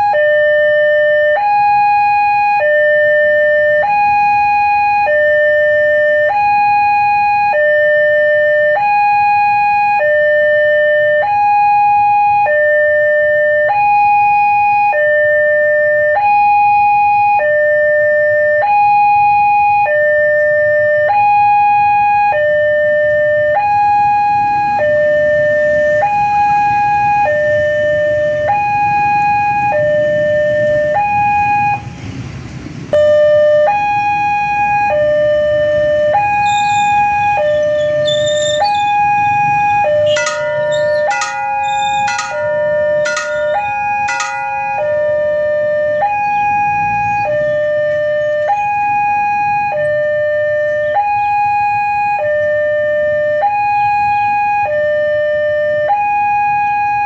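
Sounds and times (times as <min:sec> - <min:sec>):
two-tone electronic warning alarm: 0:00.0 - 0:31.9, 0:32.9 - 0:57.0.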